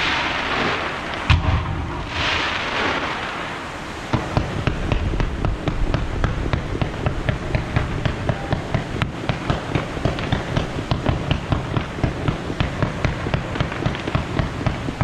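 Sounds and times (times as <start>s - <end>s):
fireworks banging rapidly: 0.0s - 15.0s.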